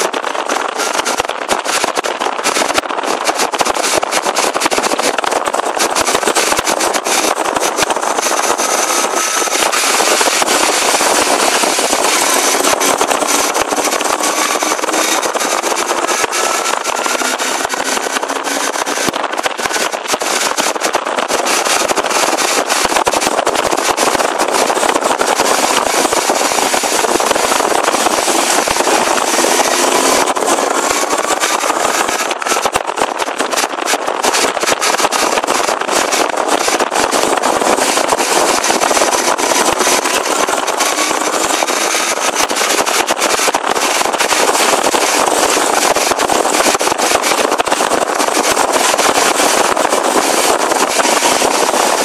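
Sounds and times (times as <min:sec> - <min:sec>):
loud rushing noise: 0:00.0 - 0:52.0
motorcycle engine accelerating: 0:00.0 - 0:52.0.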